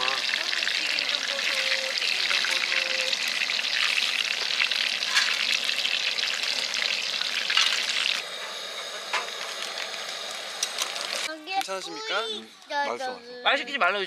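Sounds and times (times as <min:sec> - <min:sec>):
food deep-frying in oil: 0:00.0 - 0:11.3.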